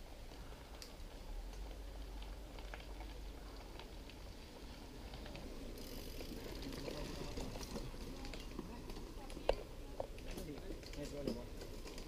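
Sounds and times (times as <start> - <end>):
bike clicks and rattles: 0.3 - 12.0.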